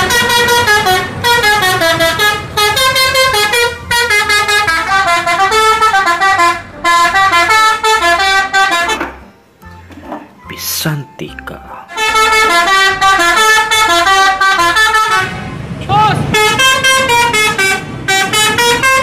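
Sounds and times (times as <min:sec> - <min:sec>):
musical bus horn tunes: 0:00.0 - 0:19.0.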